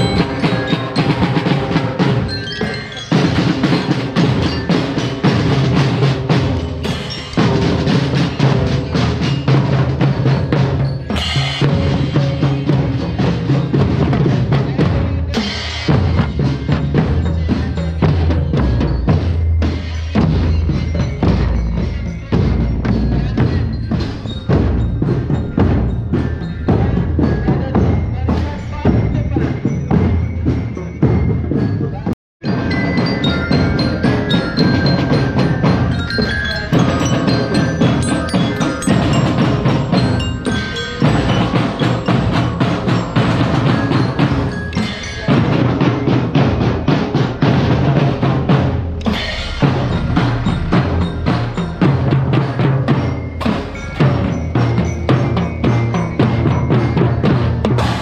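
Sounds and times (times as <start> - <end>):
ringing bell-like melody: 0.0 - 58.0
snare and bass drums: 0.0 - 58.0.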